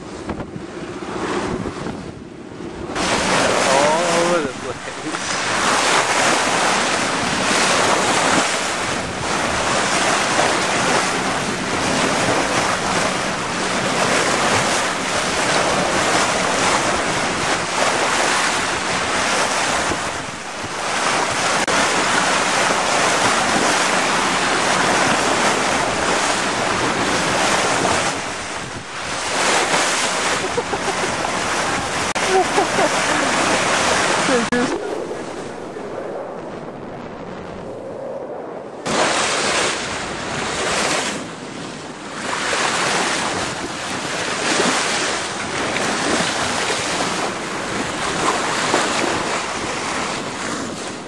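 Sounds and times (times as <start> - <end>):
water rushing along boat bow: 0.0 - 37.3, 38.8 - 51.0
wind buffeting microphone: 0.0 - 51.0.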